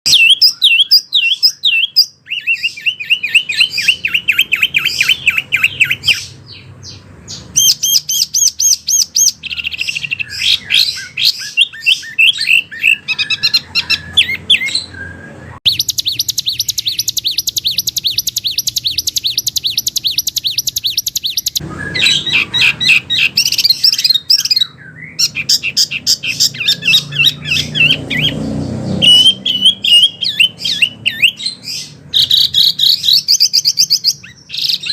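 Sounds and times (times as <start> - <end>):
songbird singing trills: 0.1 - 34.9.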